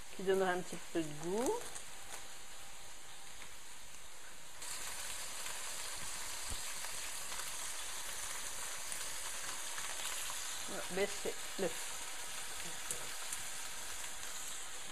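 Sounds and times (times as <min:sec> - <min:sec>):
meat sizzling in hot oil: 0:00.0 - 0:14.9.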